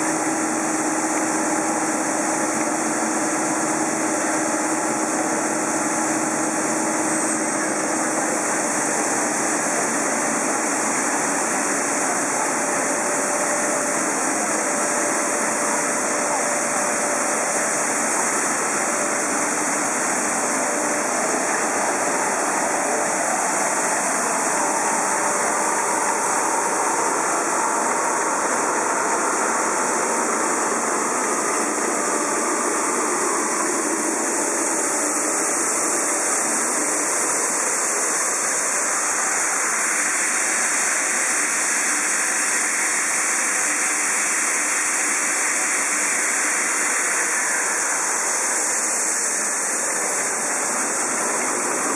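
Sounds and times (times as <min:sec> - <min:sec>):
machinery rushing noise: 0:00.0 - 0:51.9.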